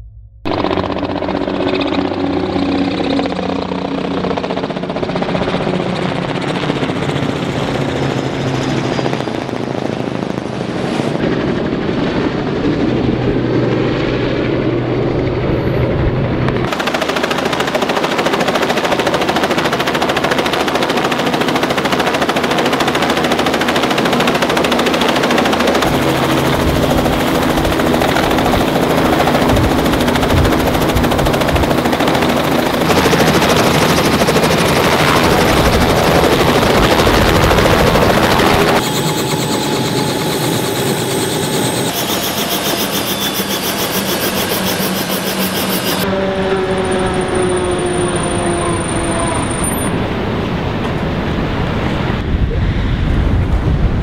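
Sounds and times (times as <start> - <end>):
helicopter rotors thudding: 0.4 - 52.3.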